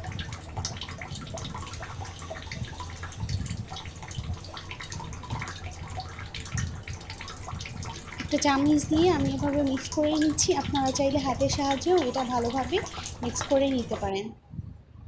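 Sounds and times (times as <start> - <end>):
spoon stirring batter: 0.0 - 14.2.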